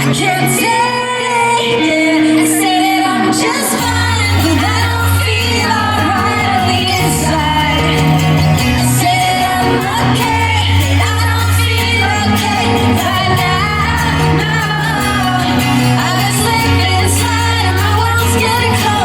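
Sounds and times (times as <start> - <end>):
pop-rock band playing: 0.0 - 19.0
sustained bass notes: 0.0 - 19.0
woman singing: 0.0 - 19.0.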